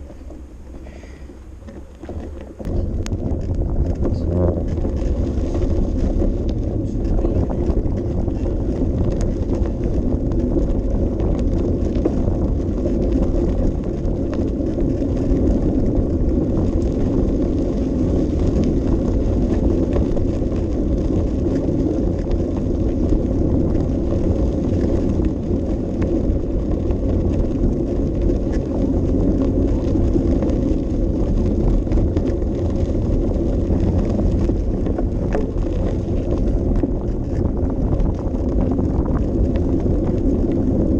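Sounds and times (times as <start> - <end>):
bicycle tyres rolling: 0.0 - 40.9
wind buffeting microphone: 0.0 - 40.9.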